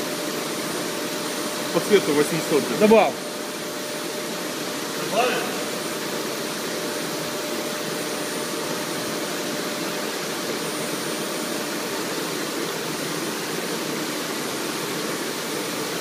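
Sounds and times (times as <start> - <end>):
water spray and machinery rushing: 0.0 - 16.0.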